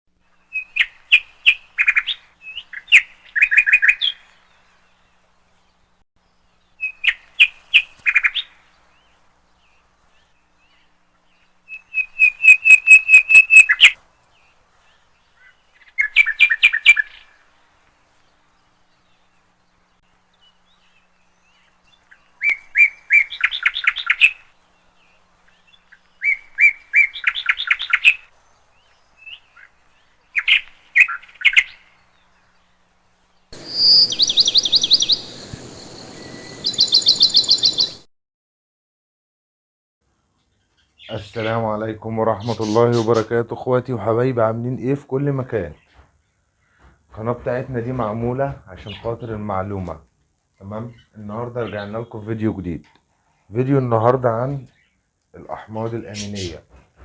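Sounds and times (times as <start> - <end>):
small bird singing: 0.2 - 38.1, 40.2 - 57.0.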